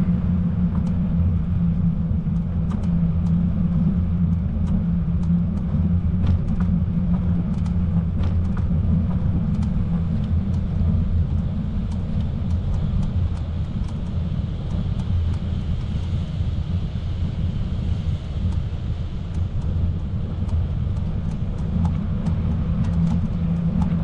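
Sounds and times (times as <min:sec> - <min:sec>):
bicycle ride rumble: 0:00.0 - 0:24.0
road and wind noise: 0:00.0 - 0:24.0.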